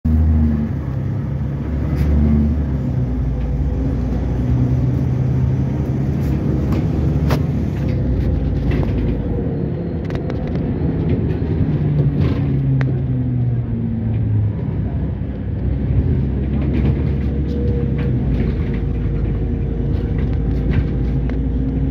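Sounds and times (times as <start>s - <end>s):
bus engine drone: 0.0s - 21.9s
road rumble: 0.0s - 21.9s.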